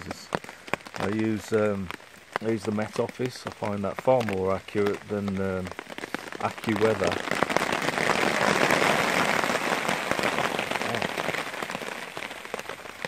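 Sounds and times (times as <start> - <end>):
heavy rain on a tarp: 0.0 - 13.0.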